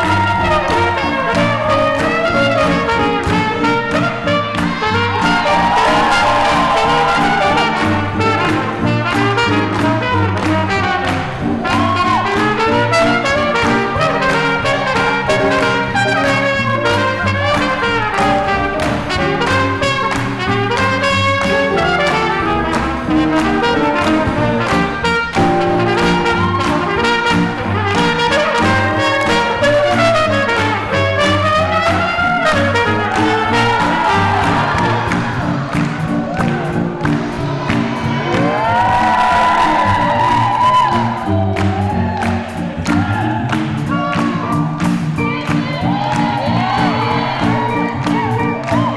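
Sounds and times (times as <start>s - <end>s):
swing jazz band playing: 0.0s - 48.9s
trumpet: 0.0s - 48.9s.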